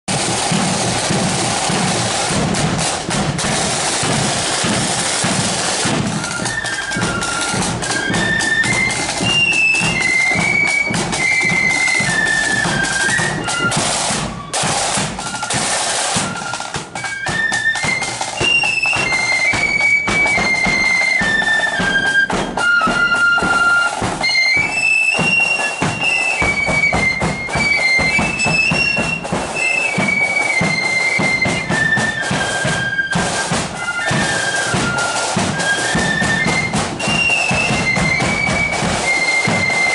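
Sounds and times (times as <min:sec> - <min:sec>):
flute melody: 0:00.1 - 0:39.9
side drums: 0:00.1 - 0:39.9.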